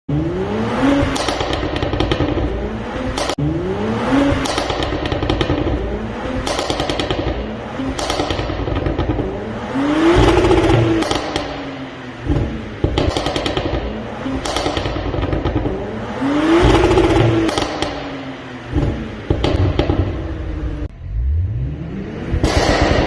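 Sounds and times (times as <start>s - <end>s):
car engine revving: 0.1s - 23.0s
exhaust pops and crackles: 1.0s - 3.5s, 4.2s - 20.9s, 22.3s - 23.0s.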